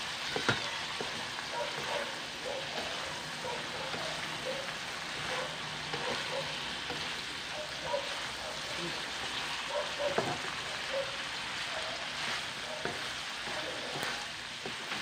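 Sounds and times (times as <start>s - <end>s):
food sizzling in a wok: 0.0s - 15.0s
wooden spatula stirring and scraping: 0.0s - 15.0s.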